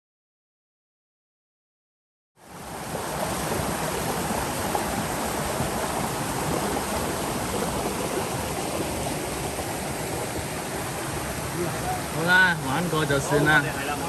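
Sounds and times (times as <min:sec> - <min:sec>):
stream rushing over rocks: 0:02.4 - 0:14.0.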